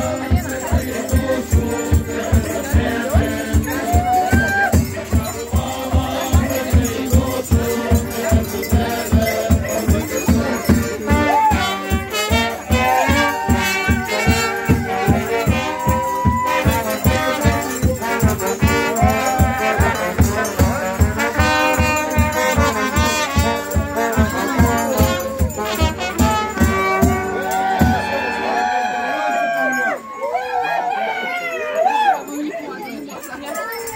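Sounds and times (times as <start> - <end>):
bass drum beat: 0.0 - 28.2
brass band playing folk melody: 0.0 - 30.2.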